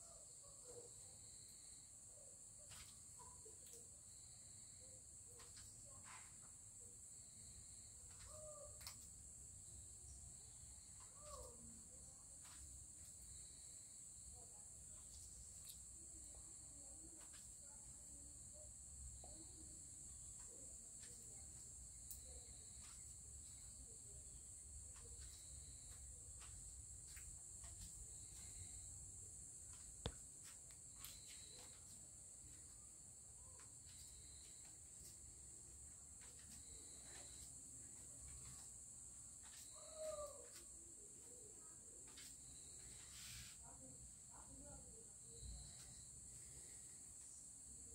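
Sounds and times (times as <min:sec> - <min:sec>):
faint high-pitched hiss: 0:00.0 - 0:47.9.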